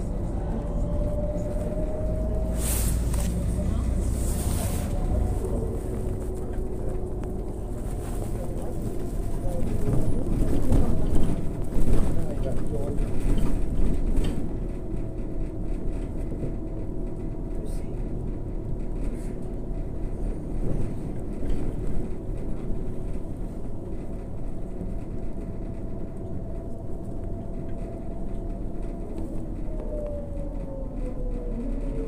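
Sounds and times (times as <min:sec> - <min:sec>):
bus engine drone with whine: 0:00.0 - 0:32.0.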